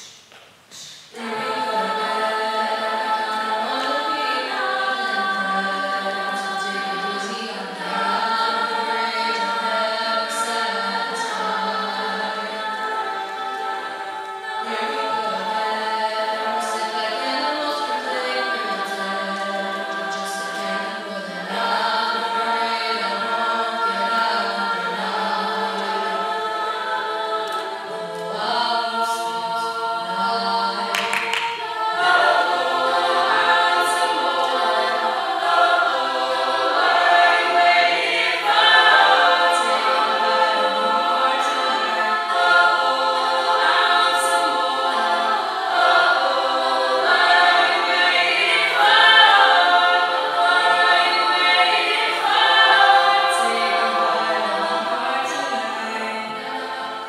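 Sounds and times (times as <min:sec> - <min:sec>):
a cappella group singing: 0:00.7 - 0:57.0.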